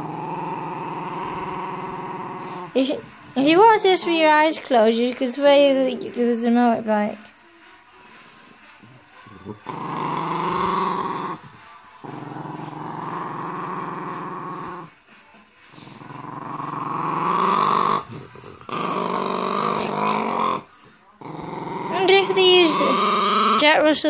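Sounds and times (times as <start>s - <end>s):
dog growling: 0.0s - 6.6s, 8.8s - 15.0s, 15.7s - 24.0s.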